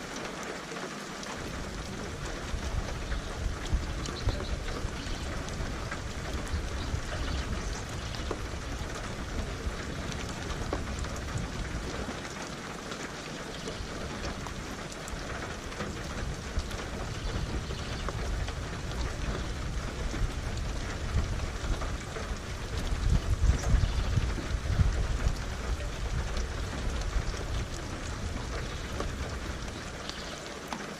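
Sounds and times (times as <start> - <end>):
rain drops ticking on surface: 0.0 - 30.9
low rumble of thunder: 1.4 - 12.4, 13.5 - 30.5.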